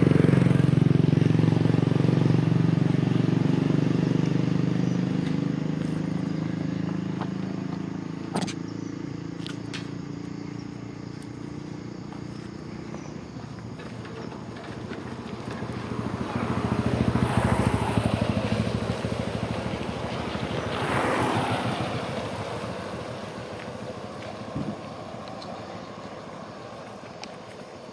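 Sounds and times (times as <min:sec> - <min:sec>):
motor vehicle passing: 0:00.0 - 0:27.9.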